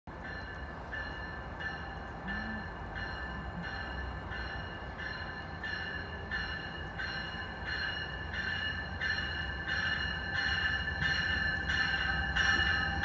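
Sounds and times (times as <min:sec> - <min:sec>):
train warning bell ringing: 0:00.1 - 0:13.0.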